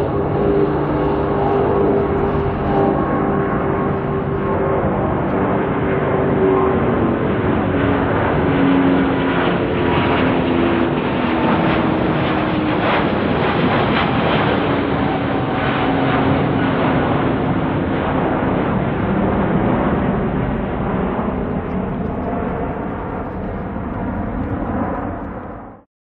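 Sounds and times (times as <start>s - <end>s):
jet engines at takeoff thrust: 0.0s - 25.9s.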